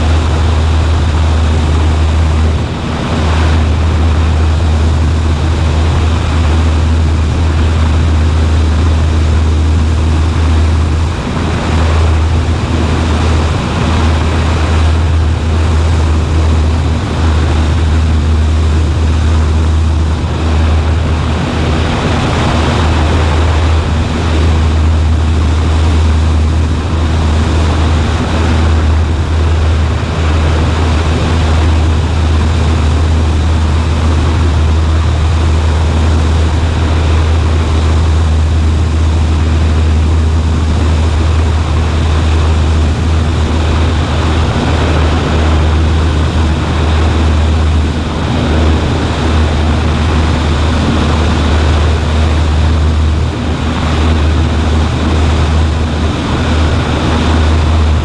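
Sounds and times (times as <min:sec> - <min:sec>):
light aircraft engine drone: 0:00.0 - 0:58.0
rushing air noise: 0:00.0 - 0:58.0.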